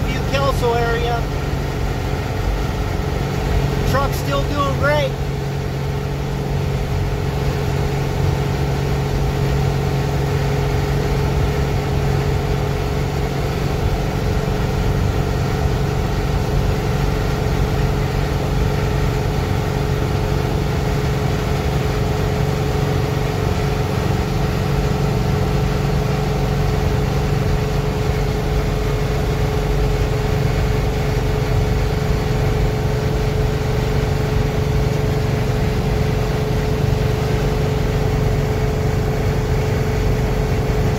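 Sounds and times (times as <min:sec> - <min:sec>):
diesel engine droning: 0:00.0 - 0:40.9
high whine: 0:00.0 - 0:40.9
road noise: 0:00.0 - 0:40.9.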